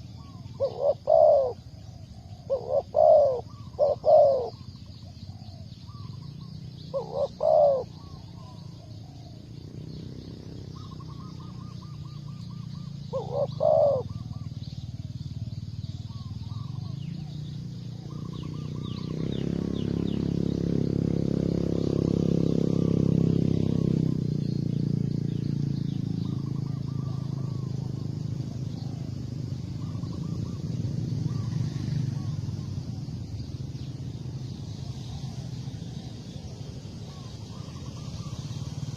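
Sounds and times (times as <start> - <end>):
dove cooing: 0.0 - 9.5, 10.8 - 20.3, 26.3 - 38.9
small birds twittering: 0.0 - 38.9.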